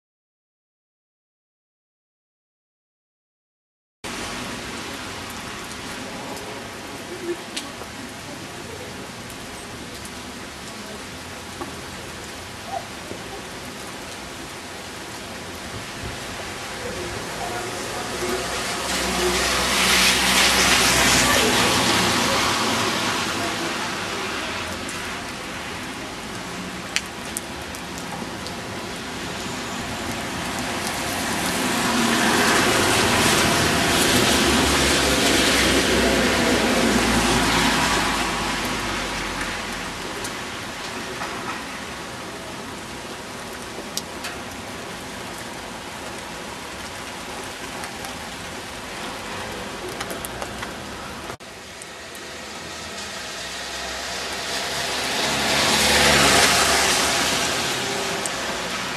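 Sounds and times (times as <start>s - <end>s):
steady rain falling: 4.1s - 58.9s.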